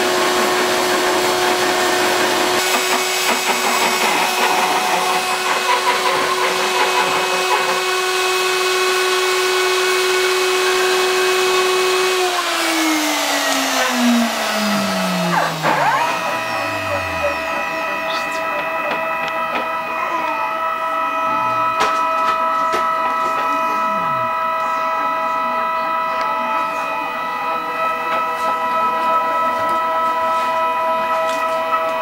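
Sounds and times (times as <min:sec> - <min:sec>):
router spindle whining: 0:00.0 - 0:32.0.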